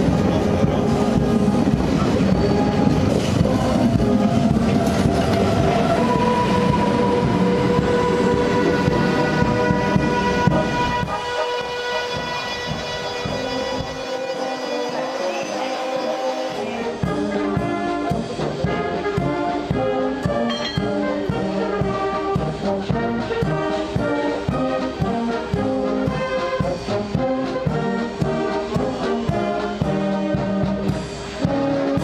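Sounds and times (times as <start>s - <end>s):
brass music with steady beat: 0.0s - 32.0s.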